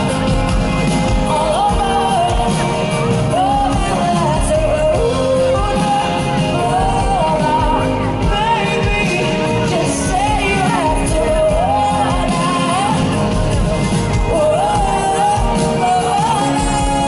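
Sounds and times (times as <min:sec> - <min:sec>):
live pop-rock band: 0:00.0 - 0:17.0
person singing long notes: 0:00.0 - 0:17.0.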